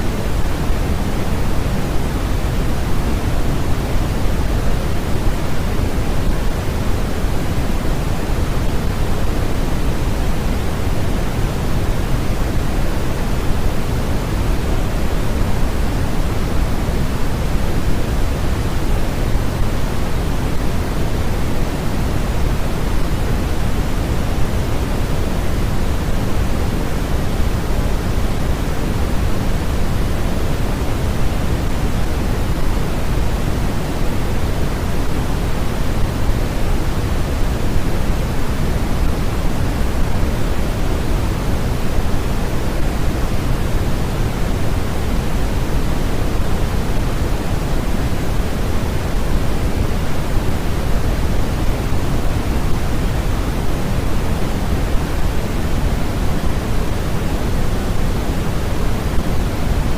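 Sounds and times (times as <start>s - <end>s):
steady generated noise: 0.0s - 59.9s.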